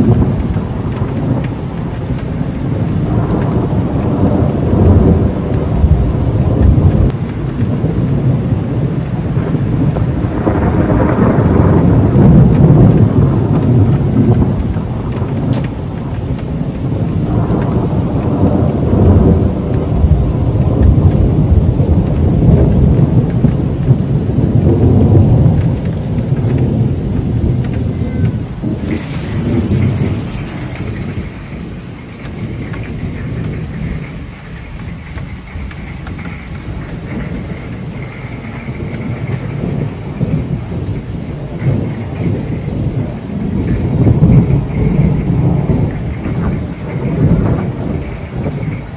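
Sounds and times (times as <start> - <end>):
steady rain: 0.0 - 48.9
thunder rumbling: 0.0 - 48.9.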